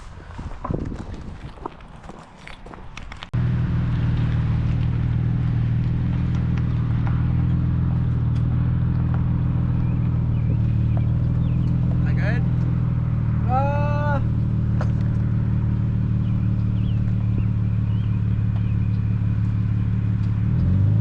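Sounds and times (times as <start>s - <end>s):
truck engine idling: 3.4s - 20.7s.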